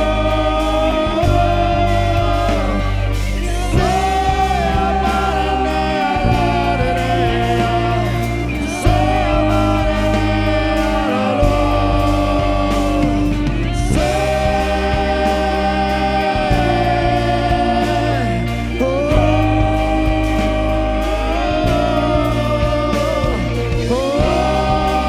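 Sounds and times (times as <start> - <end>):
worship band music with singing: 0.0 - 25.0.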